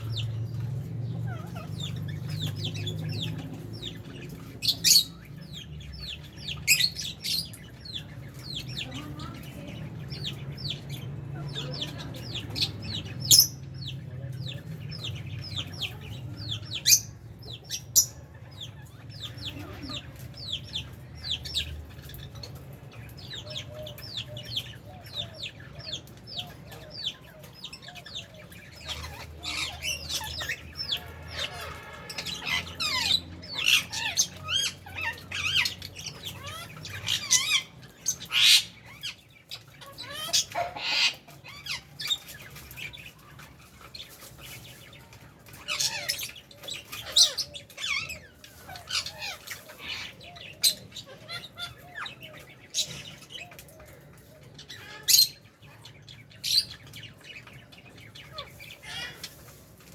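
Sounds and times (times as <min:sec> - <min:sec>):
flock of birds chattering: 0:00.0 - 0:59.9.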